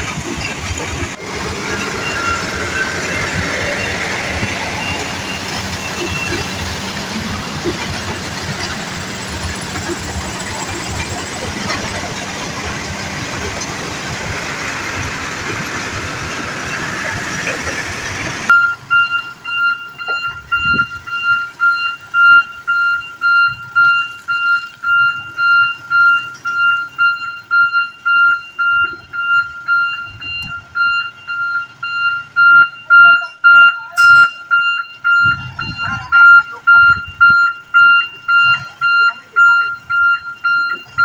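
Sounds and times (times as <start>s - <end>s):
dump truck rushing noise: 0.0s - 41.0s
truck reversing alarm beeps: 0.4s - 12.8s, 18.5s - 41.0s.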